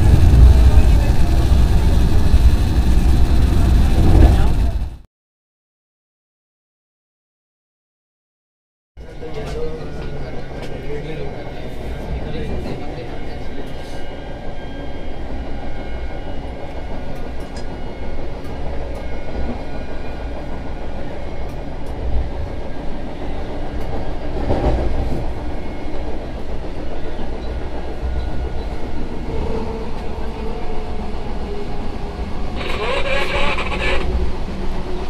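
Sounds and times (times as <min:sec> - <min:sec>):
passing train rush: 0:00.0 - 0:05.0, 0:09.0 - 0:35.0
train running rumble: 0:00.0 - 0:05.0, 0:09.0 - 0:35.0.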